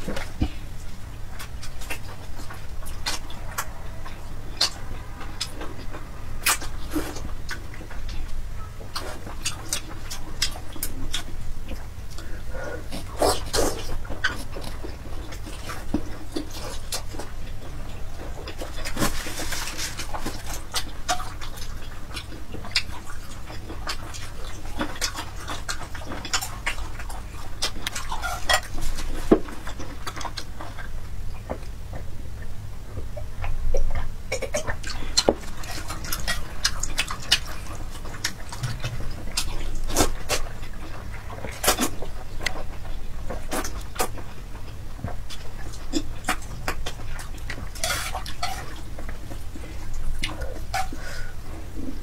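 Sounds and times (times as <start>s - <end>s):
low steady hum: 0.0s - 52.0s
person chewing wetly: 0.0s - 52.0s.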